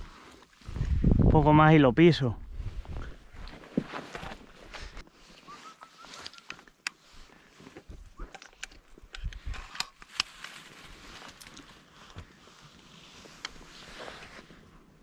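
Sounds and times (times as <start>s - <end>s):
twigs crackling underfoot: 2.6s - 14.7s.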